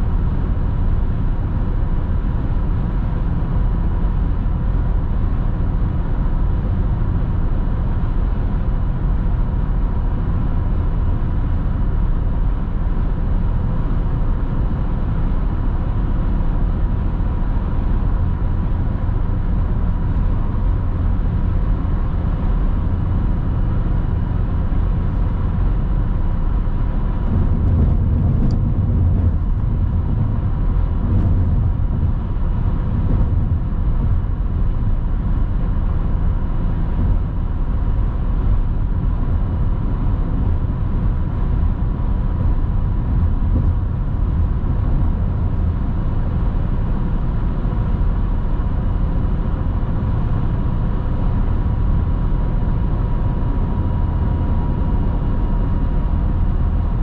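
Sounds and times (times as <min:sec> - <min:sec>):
car road noise rumble: 0:00.0 - 0:57.0.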